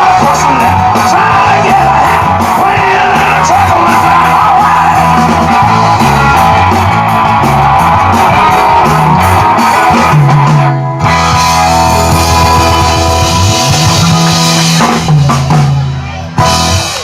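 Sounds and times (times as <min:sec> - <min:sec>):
rock band playing instrumental: 0:00.0 - 0:17.0.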